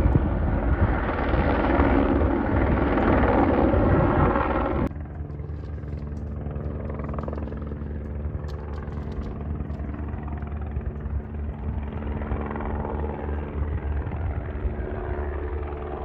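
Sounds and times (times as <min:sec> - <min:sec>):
helicopter flying overhead: 0:00.0 - 0:16.0
steady low hum: 0:00.0 - 0:16.0.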